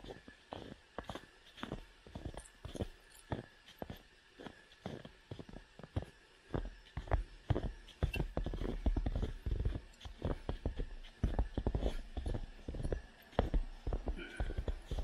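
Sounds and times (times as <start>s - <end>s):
footsteps crunching through snow: 0.0s - 15.0s.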